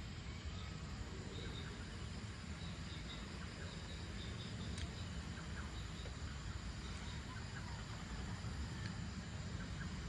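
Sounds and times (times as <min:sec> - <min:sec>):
faint insect chirps: 0:00.0 - 0:10.0.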